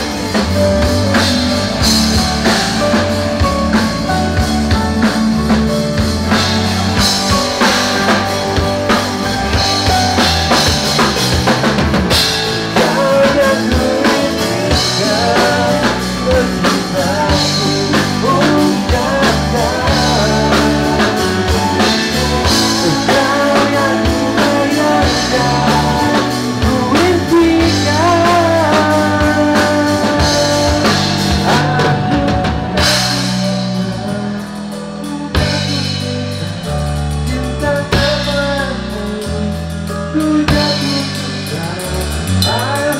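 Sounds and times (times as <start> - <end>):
drum kit: 0.0 - 42.9
live rock band: 0.0 - 42.9.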